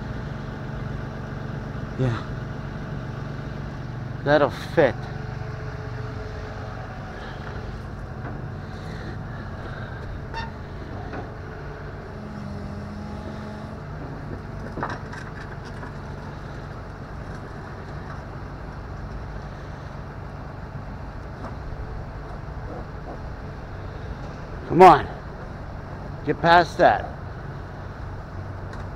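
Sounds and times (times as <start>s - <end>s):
truck engine idling: 0.0s - 28.9s.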